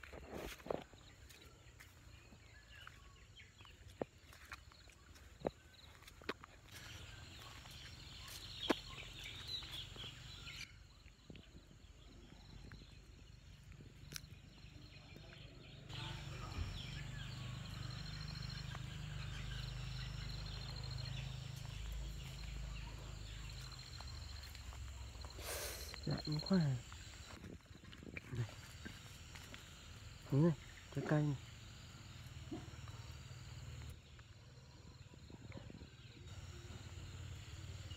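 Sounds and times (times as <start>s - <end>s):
faint high chirping: 0.4s - 37.9s.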